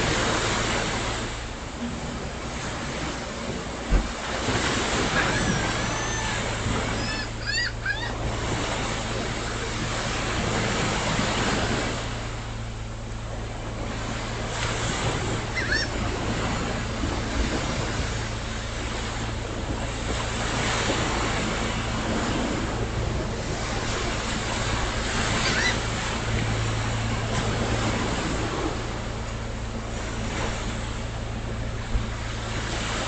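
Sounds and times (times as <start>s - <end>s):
constant low hum: 0.0s - 33.0s
waves breaking on beach: 0.0s - 33.0s.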